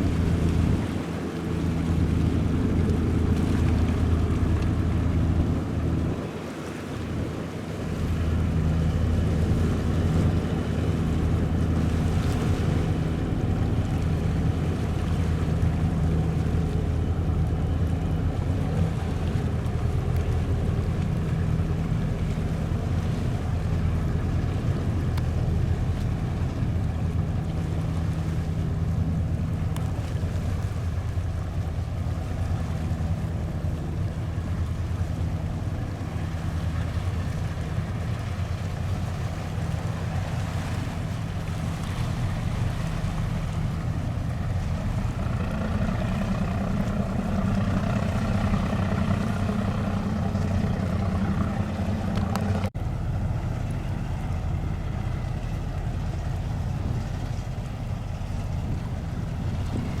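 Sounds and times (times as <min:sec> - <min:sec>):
ferry engines humming: 0:00.0 - 1:00.0.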